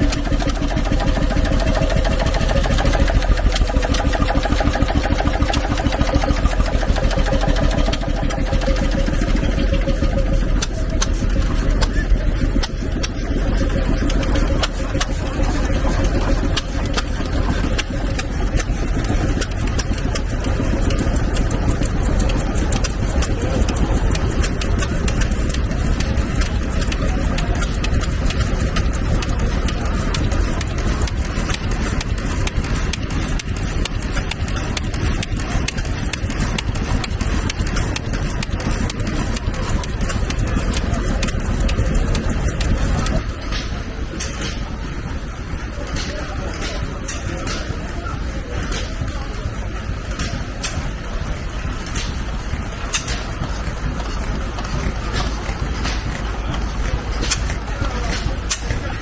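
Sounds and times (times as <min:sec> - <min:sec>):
stationary engine running: 0:00.0 - 0:59.0.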